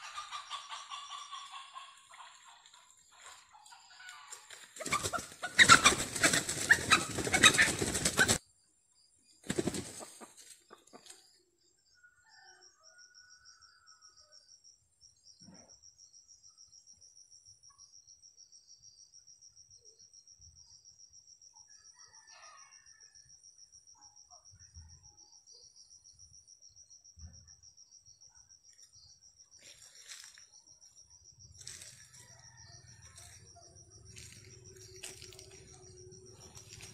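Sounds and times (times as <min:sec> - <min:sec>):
insect trill: 0:00.0 - 0:36.9.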